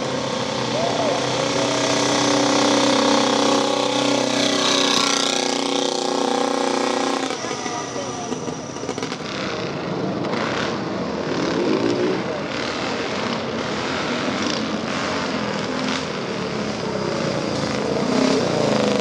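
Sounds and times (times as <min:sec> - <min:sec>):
motorcycle engine running: 0:00.0 - 0:19.0
rough faint engine: 0:00.0 - 0:19.0.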